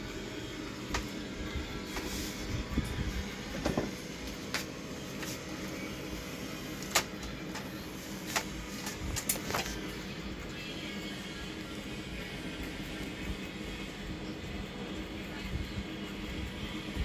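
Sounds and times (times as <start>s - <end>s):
cd motor whirring: 0.0s - 17.0s.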